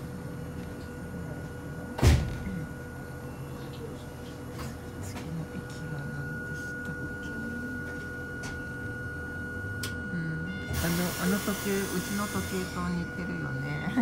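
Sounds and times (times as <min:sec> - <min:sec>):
high-pitched hum: 0:00.0 - 0:14.0.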